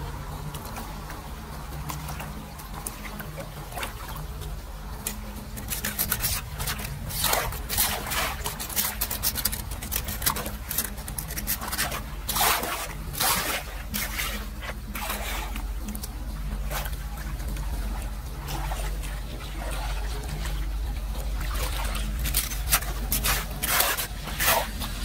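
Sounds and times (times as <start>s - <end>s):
splashing and scraping in muddy water: 0.0s - 25.0s
steady low rumble: 0.0s - 25.0s.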